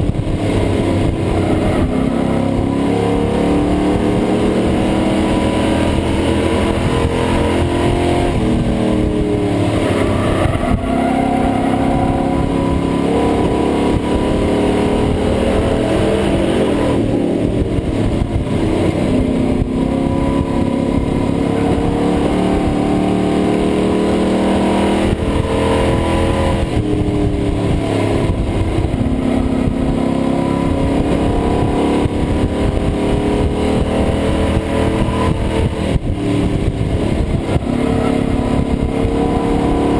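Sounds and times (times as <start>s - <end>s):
race truck engine revving: 0.0s - 39.9s
wind and road noise: 0.0s - 39.9s.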